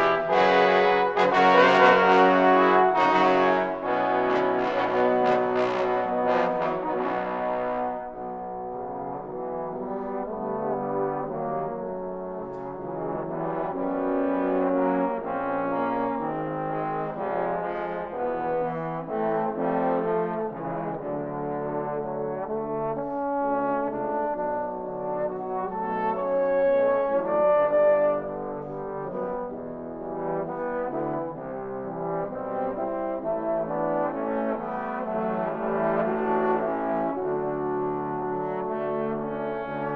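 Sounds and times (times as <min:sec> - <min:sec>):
trombone ensemble playing chords: 0:00.0 - 0:39.9.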